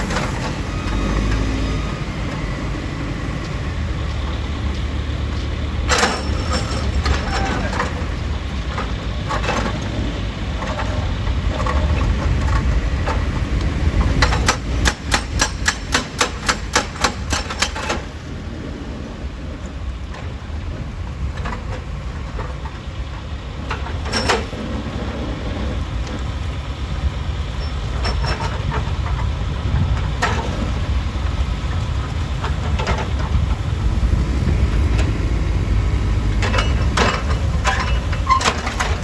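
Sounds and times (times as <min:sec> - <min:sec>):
heavy diesel machinery rumbling: 0:00.0 - 0:39.0.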